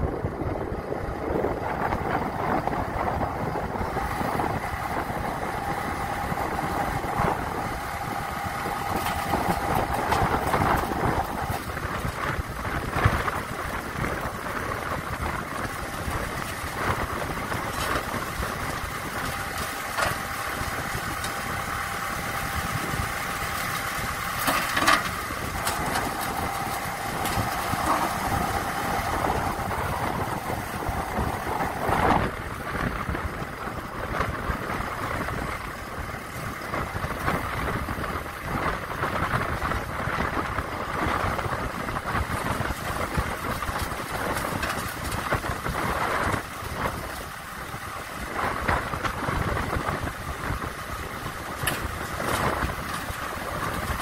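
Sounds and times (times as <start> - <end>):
concrete mixer engine running: 0.0 - 54.0
steady whine: 0.0 - 54.0.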